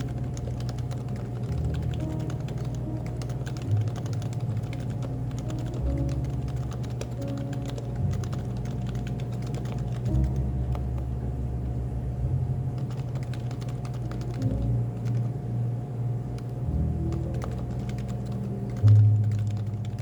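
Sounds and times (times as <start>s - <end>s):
keyboard keystrokes: 0.0s - 11.1s, 12.8s - 15.3s, 16.4s - 20.0s
background music with low bass: 0.0s - 20.0s.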